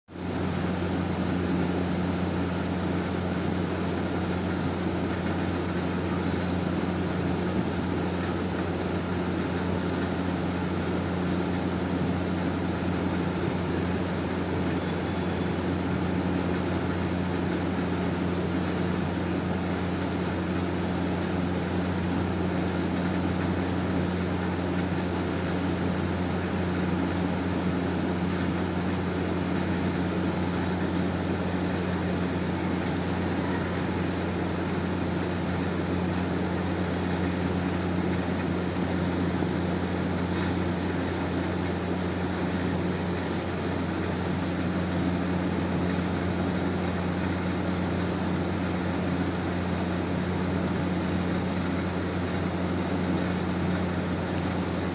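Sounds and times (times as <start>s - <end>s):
machine droning: 0.1s - 54.9s.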